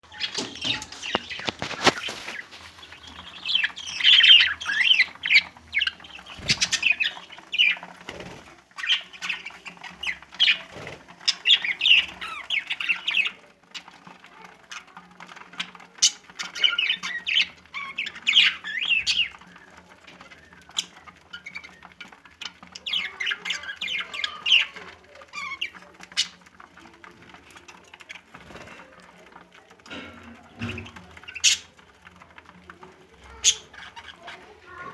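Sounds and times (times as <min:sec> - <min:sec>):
budgerigars chattering and warbling: 0:00.0 - 0:29.1, 0:29.9 - 0:31.9, 0:33.2 - 0:34.9
wing flutters: 0:00.0 - 0:29.7.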